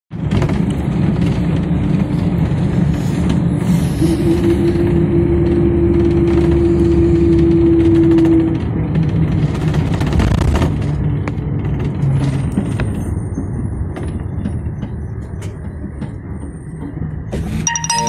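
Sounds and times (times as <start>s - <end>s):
bus engine and road noise: 0.1s - 18.0s.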